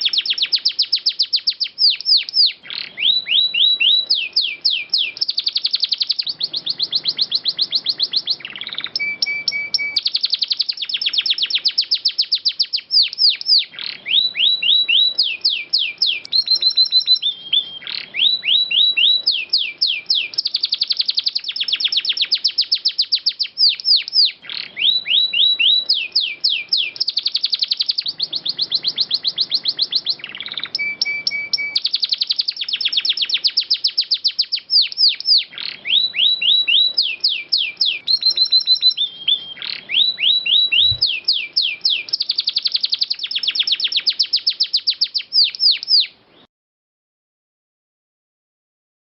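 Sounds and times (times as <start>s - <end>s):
canary singing trills: 0.0s - 46.5s.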